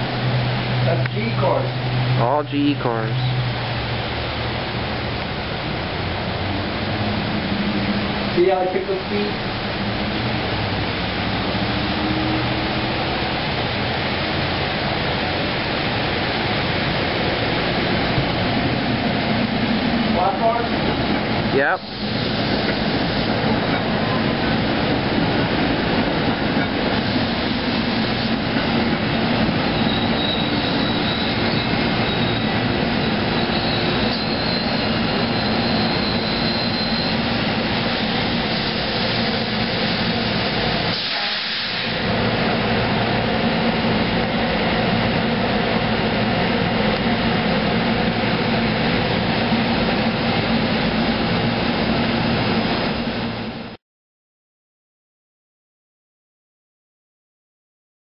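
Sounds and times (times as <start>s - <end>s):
electric train rolling past: 0.0s - 53.7s.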